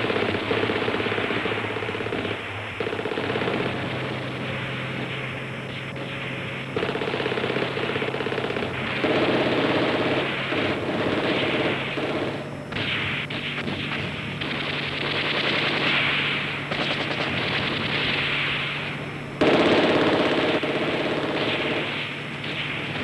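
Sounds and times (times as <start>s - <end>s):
machine guns firing bursts: 0.0s - 23.0s.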